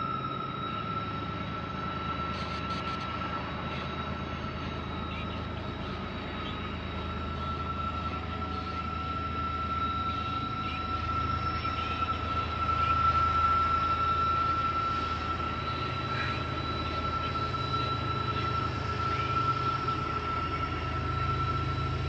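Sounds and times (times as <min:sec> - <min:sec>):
high-pitched whine: 0:00.0 - 0:22.0
locomotive engine drone: 0:00.0 - 0:22.0.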